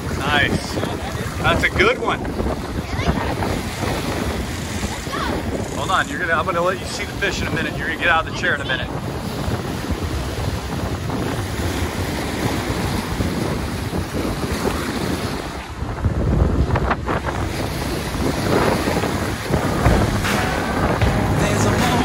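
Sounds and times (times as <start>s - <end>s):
boat engines rumbling: 0.0s - 22.0s
churning whitewater rushing: 0.0s - 22.0s
wind buffeting microphone: 0.0s - 22.0s.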